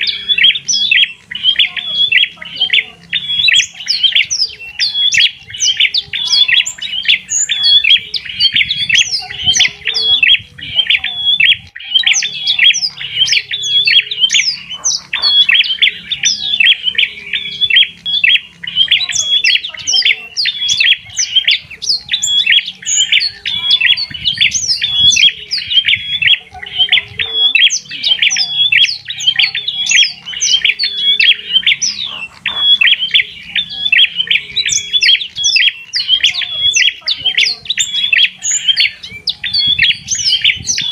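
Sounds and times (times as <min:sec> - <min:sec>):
bird chirping rapidly: 0:00.0 - 0:40.9.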